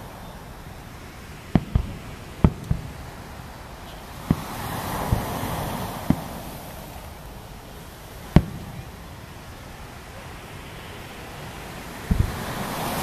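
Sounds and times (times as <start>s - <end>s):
firework shells bursting: 0.0s - 10.4s, 12.0s - 13.0s
rush of noise: 0.0s - 13.0s.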